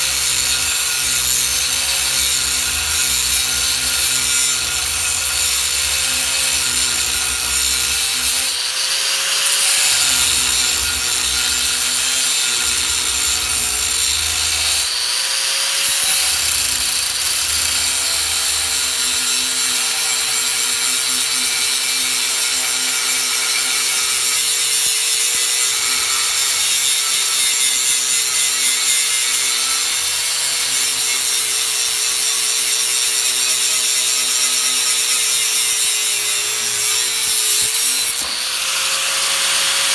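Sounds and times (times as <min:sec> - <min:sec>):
grinder cutting sheet steel: 0:00.0 - 0:39.9.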